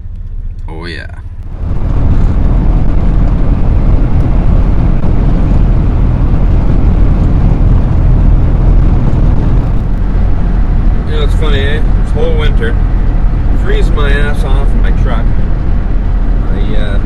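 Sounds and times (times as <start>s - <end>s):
road noise: 0.0s - 17.0s
truck engine rumble: 0.0s - 17.0s.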